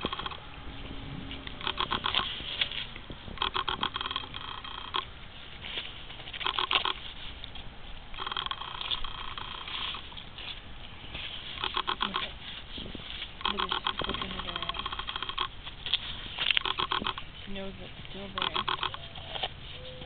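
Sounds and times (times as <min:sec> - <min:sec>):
dog chewing corn cob: 0:00.0 - 0:10.7, 0:11.4 - 0:20.0.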